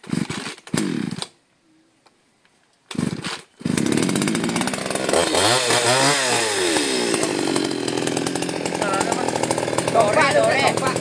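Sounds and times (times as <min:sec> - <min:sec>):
chainsaw starting and revving: 0:00.0 - 0:01.3, 0:02.9 - 0:11.0.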